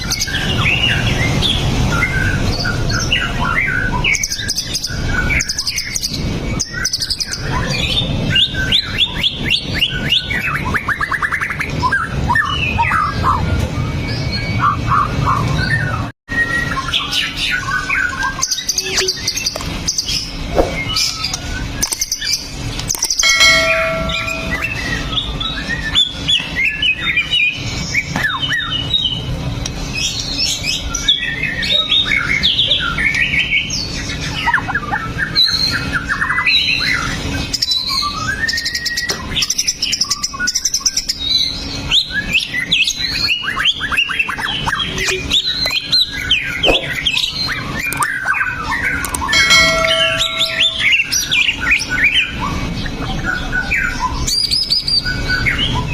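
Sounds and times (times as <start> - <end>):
bird singing whistles and chatter: 0.0 - 29.3, 30.0 - 55.9.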